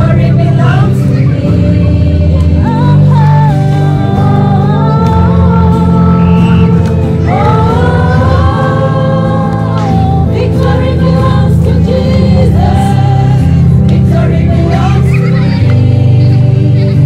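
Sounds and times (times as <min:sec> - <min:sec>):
choir singing: 0:00.0 - 0:17.0
loud bass line: 0:00.0 - 0:17.0.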